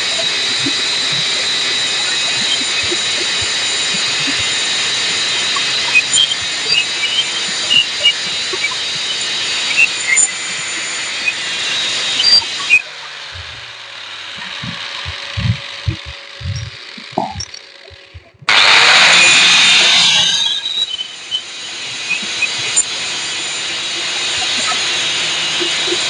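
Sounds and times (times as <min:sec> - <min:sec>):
arc welding hiss and crackle: 0:00.0 - 0:26.0.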